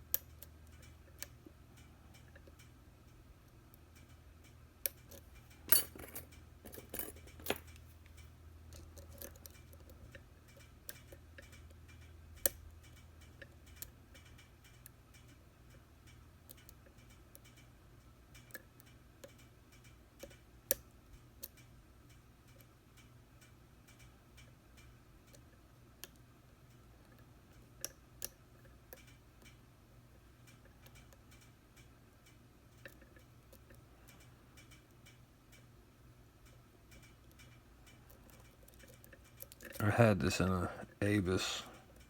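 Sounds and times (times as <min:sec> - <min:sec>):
small metallic clicks of lock picking: 0:00.1 - 0:02.8, 0:03.5 - 0:17.7, 0:18.3 - 0:29.6, 0:30.4 - 0:35.7, 0:36.4 - 0:39.8.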